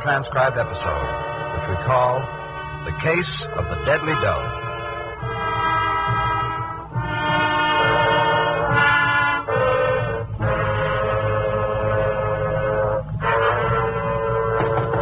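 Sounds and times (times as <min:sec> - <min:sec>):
brass playing held chords: 0:00.0 - 0:15.0.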